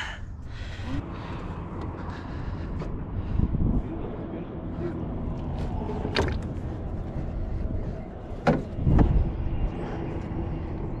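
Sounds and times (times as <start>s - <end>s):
low rumble of wind and water: 0.0s - 11.0s.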